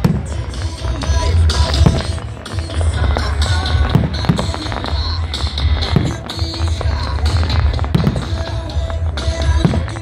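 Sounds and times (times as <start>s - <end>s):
firework bangs: 0.0s - 10.0s
loud music: 0.0s - 10.0s.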